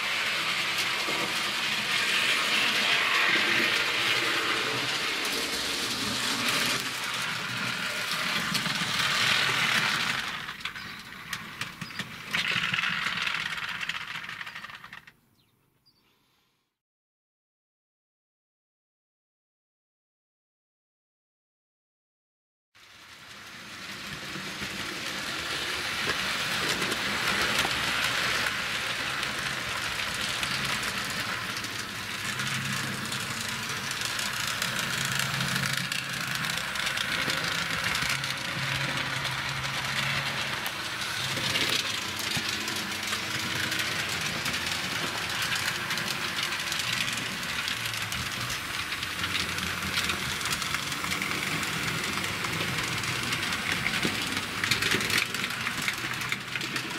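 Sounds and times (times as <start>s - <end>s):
model trains running on track: 0.0s - 15.1s, 22.8s - 56.9s.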